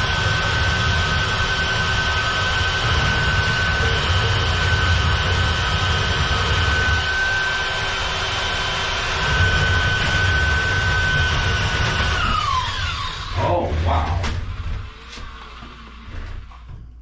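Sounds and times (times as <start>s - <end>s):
drain auger motor whining: 0.0s - 16.5s.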